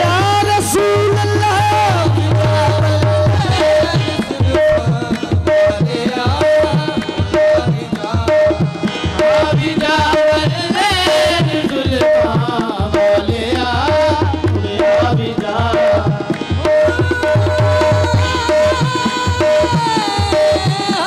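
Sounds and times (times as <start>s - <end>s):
harmonium: 0.0s - 21.0s
tabla rhythm: 0.0s - 21.0s.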